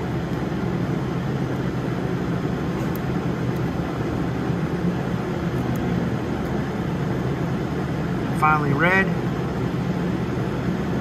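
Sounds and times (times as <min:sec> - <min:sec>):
machinery hum and rumble: 0:00.0 - 0:11.0.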